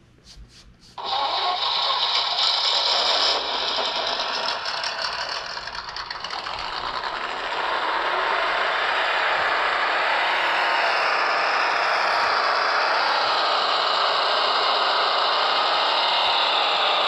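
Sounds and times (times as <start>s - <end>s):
toy motor and gearbox whirring: 1.0s - 9.8s, 10.8s - 17.0s.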